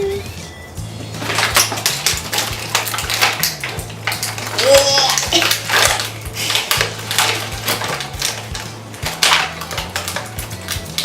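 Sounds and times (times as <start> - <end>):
packaging rustling: 1.1 - 11.0
plastic capsules clicking and rattling: 1.1 - 11.0.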